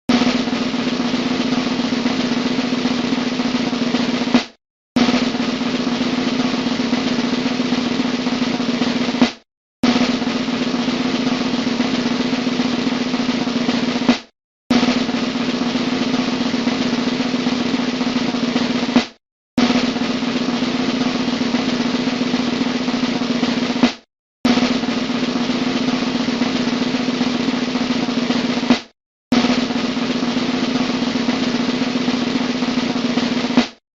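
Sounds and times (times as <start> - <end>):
drum rolls: 0.1 - 33.8.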